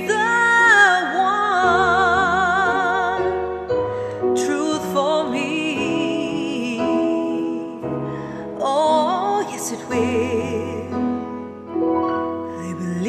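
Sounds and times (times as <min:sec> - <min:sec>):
slow piano ballad music: 0:00.0 - 0:13.0.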